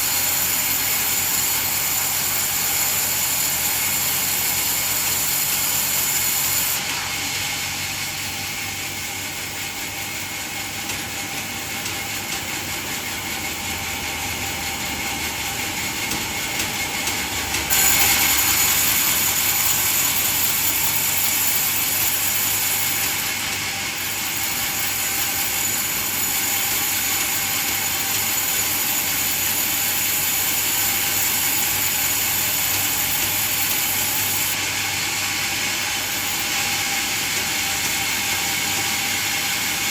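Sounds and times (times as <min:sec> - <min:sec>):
band saw cutting wood: 0:00.0 - 0:08.5, 0:12.0 - 0:39.9.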